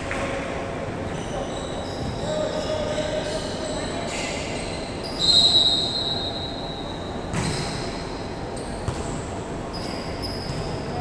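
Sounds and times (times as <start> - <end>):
sneakers squeaking on gym floor: 1.1 - 11.0.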